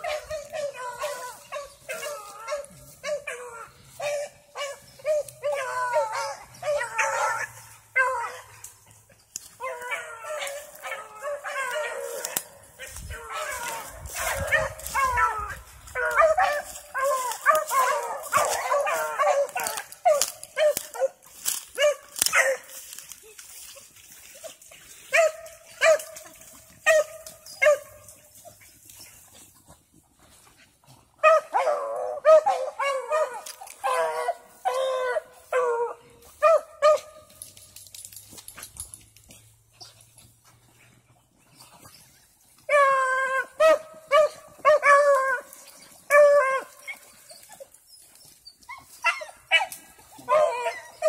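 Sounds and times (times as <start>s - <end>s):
dogs barking and yipping: 0.0s - 51.0s.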